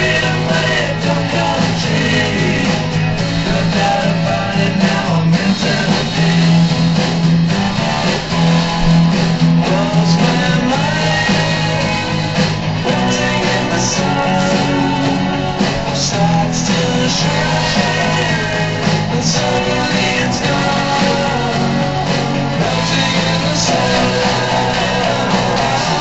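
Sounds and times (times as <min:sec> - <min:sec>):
rock song with guitar and vocals: 0:00.0 - 0:26.0.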